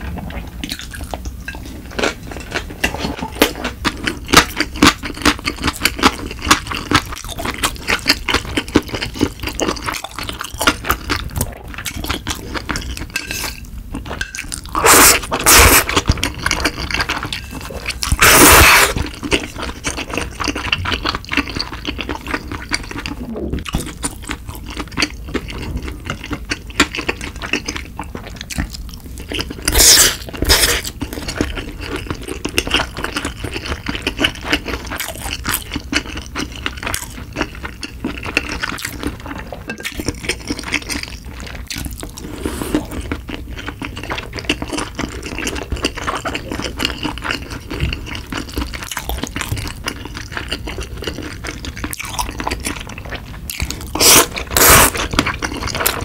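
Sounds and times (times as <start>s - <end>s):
wet chewing and mouth sounds: 0.0s - 56.0s.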